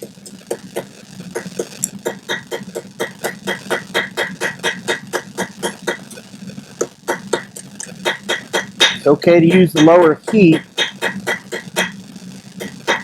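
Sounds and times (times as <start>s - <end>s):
hammer tapping hot steel on anvil: 0.0s - 6.2s, 6.8s - 12.0s, 12.6s - 13.0s
steady low hum: 0.0s - 13.0s.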